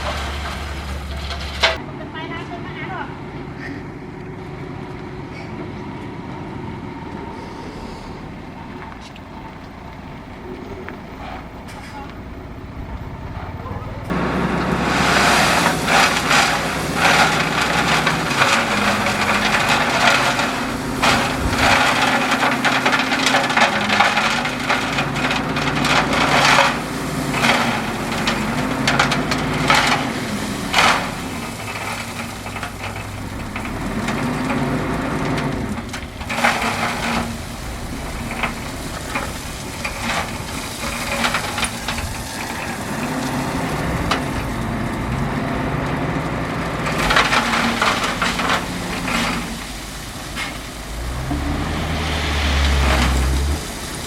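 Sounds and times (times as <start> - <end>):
gravel and rock crunching: 0.0 - 2.3, 7.1 - 54.0
bulldozer diesel engine under load: 0.0 - 54.0.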